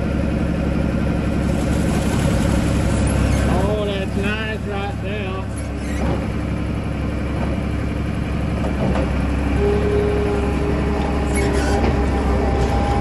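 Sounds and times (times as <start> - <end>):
heavy equipment engine rumbling: 0.0 - 13.0.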